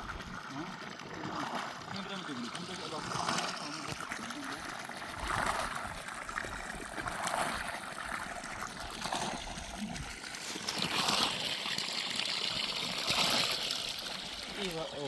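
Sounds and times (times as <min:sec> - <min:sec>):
water trickling through channel: 0:00.0 - 0:15.0.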